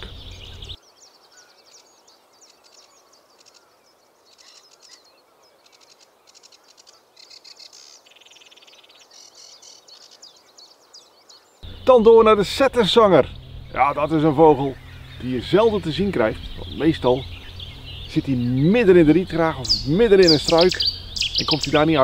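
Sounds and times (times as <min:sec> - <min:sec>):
warbler singing chatter: 0:00.0 - 0:22.0.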